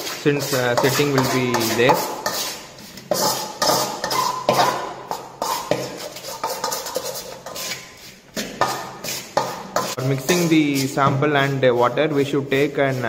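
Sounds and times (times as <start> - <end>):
trowel scraping metal basin: 0.0 - 13.0.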